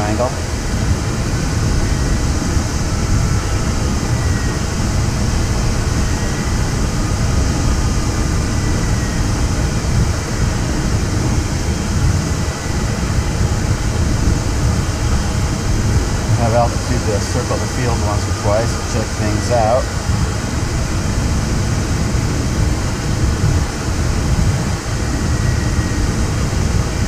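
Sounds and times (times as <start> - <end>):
airflow rushing around cockpit: 0.0 - 27.0
wind rumble on microphone: 0.0 - 27.0.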